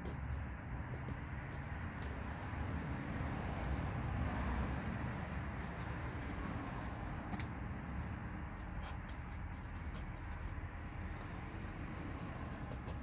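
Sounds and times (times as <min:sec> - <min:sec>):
sticker peeling off car paint: 0:00.0 - 0:03.4, 0:05.0 - 0:13.0.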